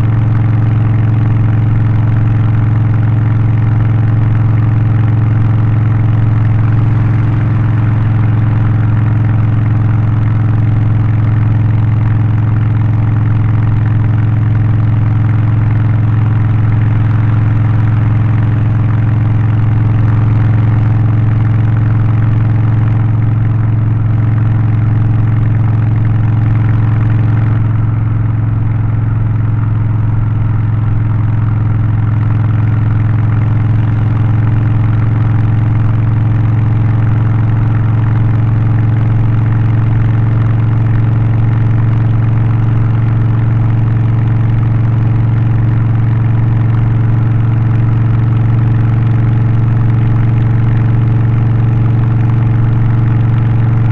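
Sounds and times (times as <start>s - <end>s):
motorcycle engine deep exhaust note: 0.0s - 53.9s.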